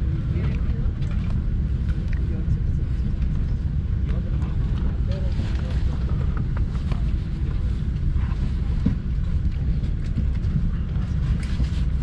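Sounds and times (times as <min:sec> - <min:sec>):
air-conditioning airflow rumble: 0:00.0 - 0:12.0.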